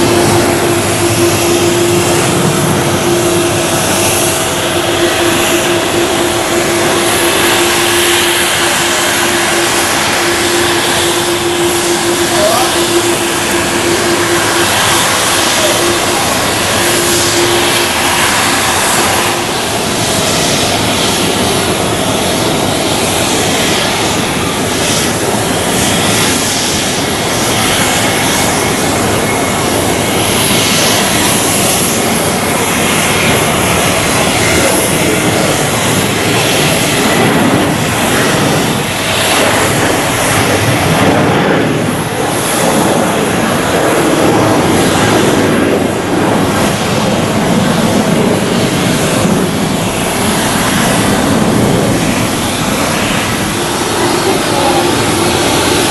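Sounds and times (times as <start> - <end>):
jet airliner engines: 0.0 - 55.9.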